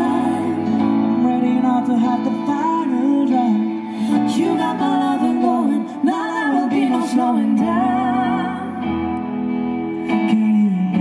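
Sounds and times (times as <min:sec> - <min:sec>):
woman and man singing: 0:00.0 - 0:09.1, 0:10.0 - 0:11.0
acoustic guitar: 0:00.0 - 0:11.0.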